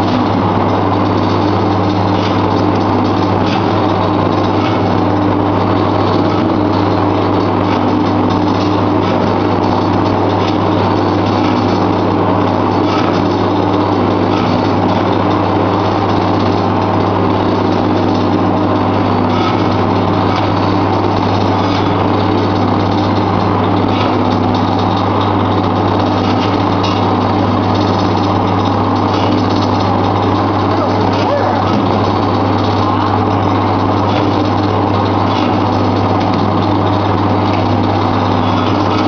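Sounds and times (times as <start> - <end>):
meat shredder running: 0.0 - 39.0.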